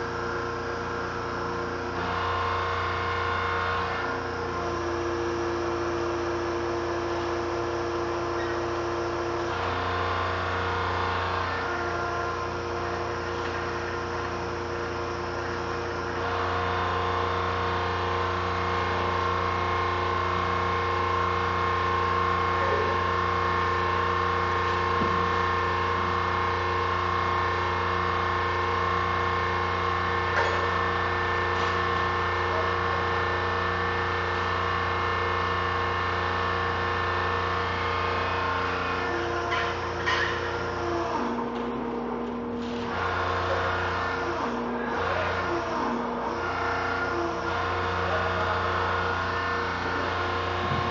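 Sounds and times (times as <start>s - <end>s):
hydraulic pump motor humming: 0.0s - 50.9s.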